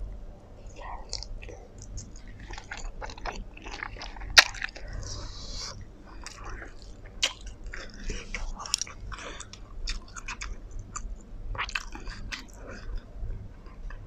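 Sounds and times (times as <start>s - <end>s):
wet chewing and smacking: 0.8s - 14.0s.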